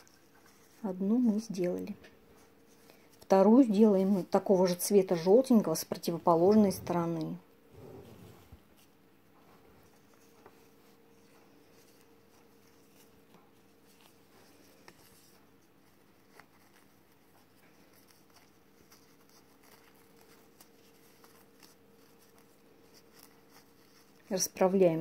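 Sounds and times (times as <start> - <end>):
faint steady hum: 0.0 - 25.0
ribbon rustling: 0.0 - 25.0.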